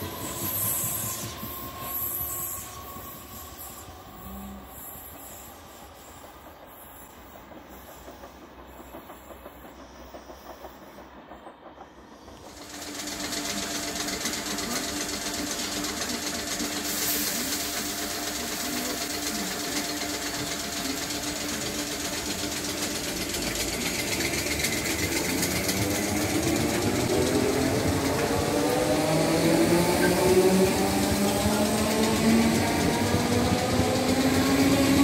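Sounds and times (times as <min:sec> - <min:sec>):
electric train humming: 0:00.0 - 0:35.0
train traction motors whining: 0:00.0 - 0:35.0.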